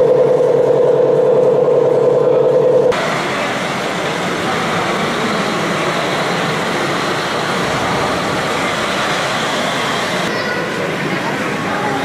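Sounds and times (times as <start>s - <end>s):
crowd background noise: 1.2s - 12.0s.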